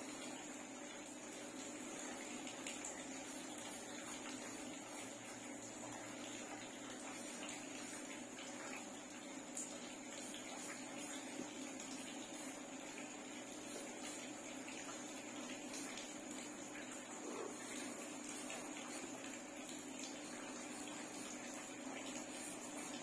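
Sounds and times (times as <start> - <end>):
faint hum: 0.0 - 23.0
room noise hiss: 0.0 - 23.0.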